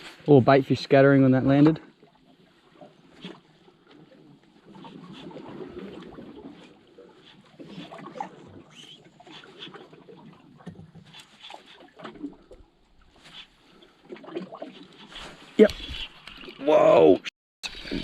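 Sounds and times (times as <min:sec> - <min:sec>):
water lapping among rocks: 0:01.9 - 0:16.6.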